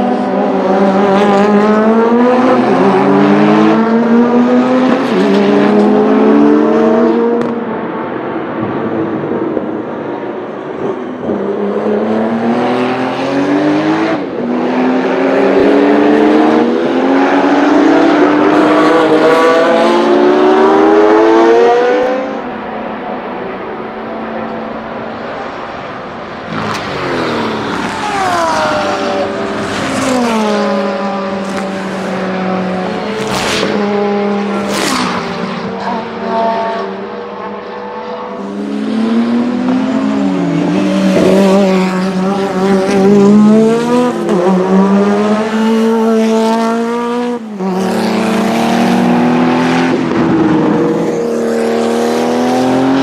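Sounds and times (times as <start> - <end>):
race car engine: 0.0 - 53.0.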